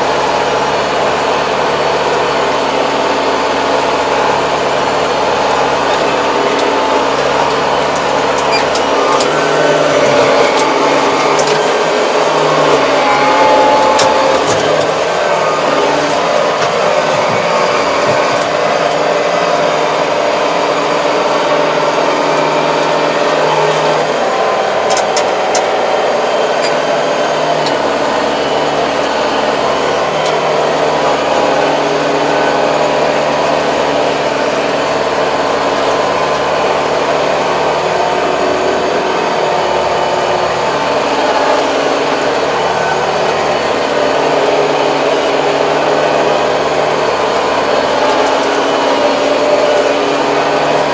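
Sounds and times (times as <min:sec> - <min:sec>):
deep drone: 0:00.0 - 0:50.9
tractor diesel engine running: 0:00.0 - 0:50.9.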